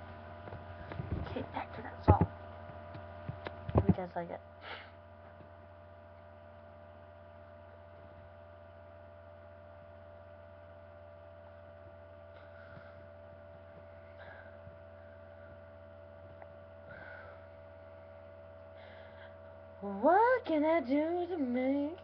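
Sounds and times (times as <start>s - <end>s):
mains hum: 0.0s - 22.0s.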